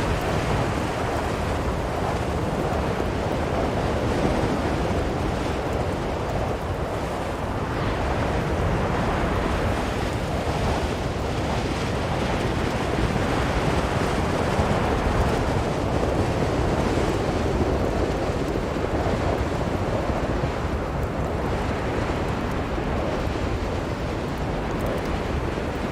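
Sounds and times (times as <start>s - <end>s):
strong wind blowing: 0.0s - 25.9s.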